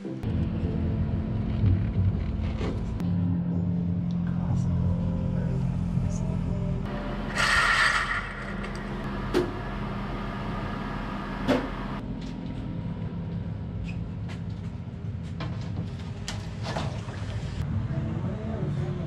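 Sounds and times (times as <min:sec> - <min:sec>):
steady low hum: 0:00.2 - 0:16.3.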